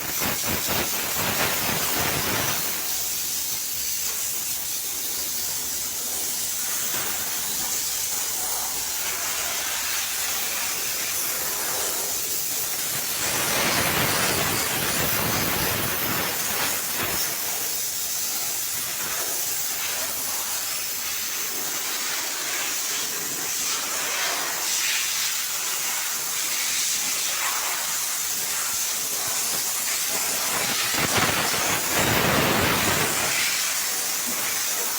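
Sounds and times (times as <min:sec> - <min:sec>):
steam cleaner jet hissing: 0:00.0 - 0:34.9.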